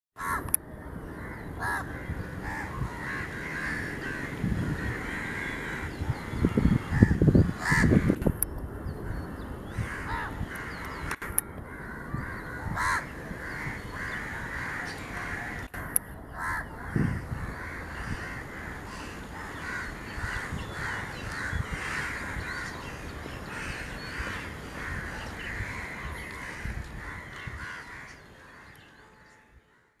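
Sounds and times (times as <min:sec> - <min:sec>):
birds calling: 0:00.2 - 0:30.0.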